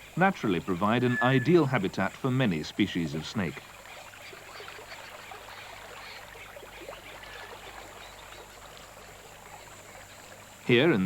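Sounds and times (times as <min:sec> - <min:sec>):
gently trickling river water: 0:00.0 - 0:11.0.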